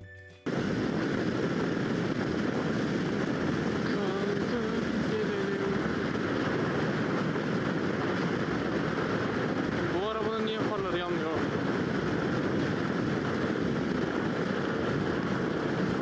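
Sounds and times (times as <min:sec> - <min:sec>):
wind on microphone: 0:00.4 - 0:16.0.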